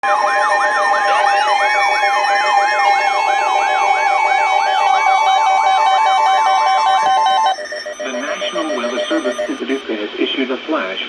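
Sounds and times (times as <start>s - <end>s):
two-note alternating tone: 0.0s - 9.8s
yelping electronic siren: 0.0s - 9.8s
steady alarm tones: 0.0s - 9.9s.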